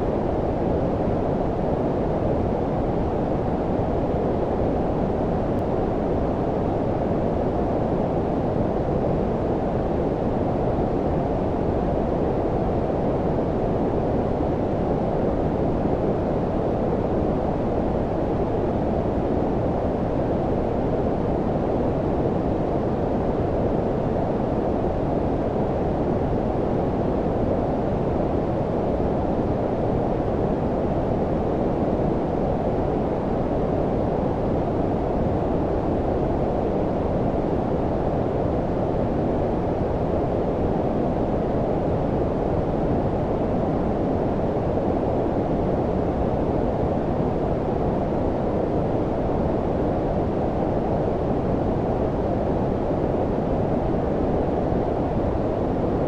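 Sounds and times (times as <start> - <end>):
low rushing brown noise: 0.0 - 56.0.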